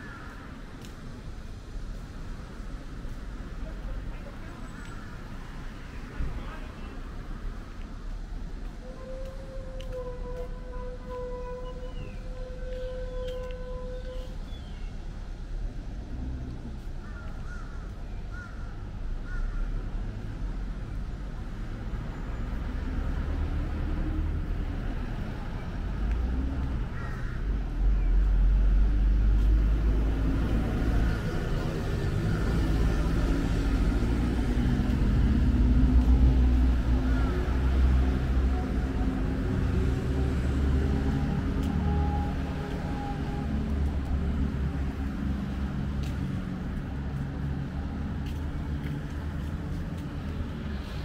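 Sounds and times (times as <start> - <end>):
passing traffic rumble: 0.0 - 51.0.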